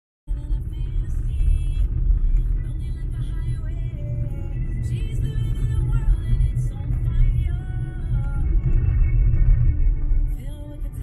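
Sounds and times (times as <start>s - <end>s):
car road rumble: 0.3s - 11.0s
music playing: 0.3s - 11.0s.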